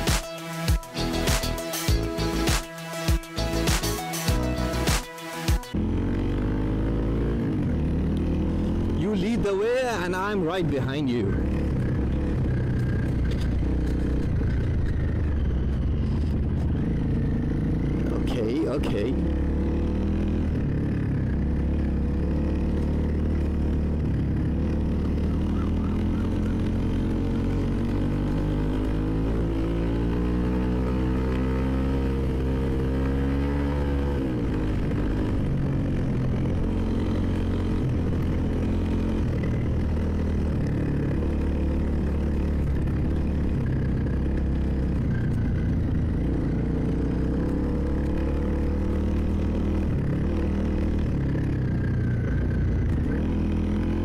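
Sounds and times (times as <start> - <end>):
motorcycle engine accelerating: 3.3 - 54.0.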